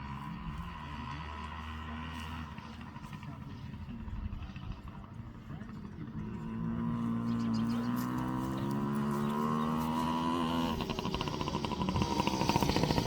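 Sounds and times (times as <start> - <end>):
small two-stroke engine running: 0.0 - 13.0.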